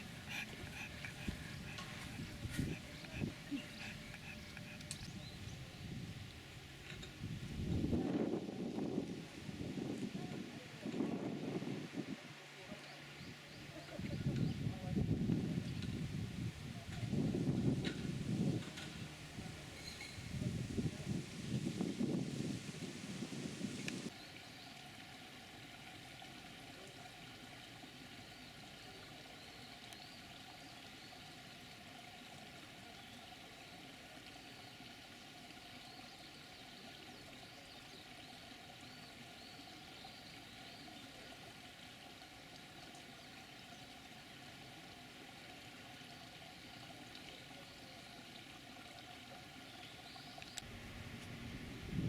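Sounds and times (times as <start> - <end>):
outdoor ambient hiss: 0.0 - 52.0.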